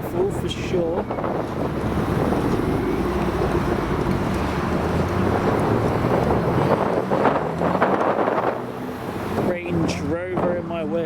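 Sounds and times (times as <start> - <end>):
car engine running: 0.2 - 11.0
wind buffeting microphone: 0.6 - 11.0.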